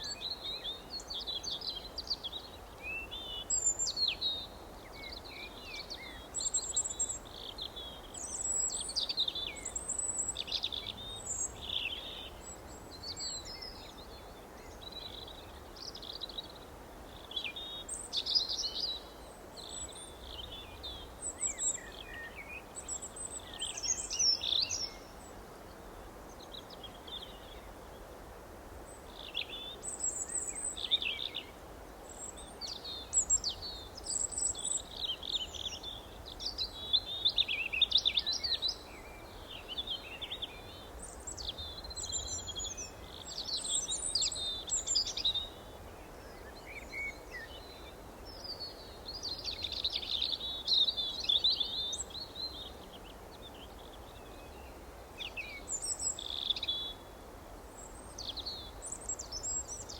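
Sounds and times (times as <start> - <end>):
soft background hiss: 0.0 - 59.9.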